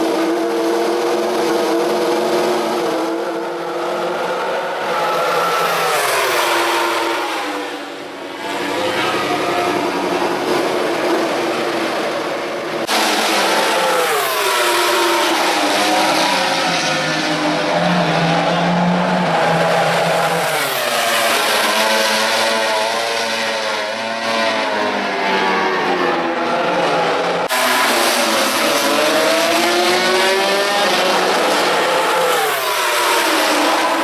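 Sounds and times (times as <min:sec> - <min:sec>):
racing motorcycle engines revving: 0:00.0 - 0:34.0.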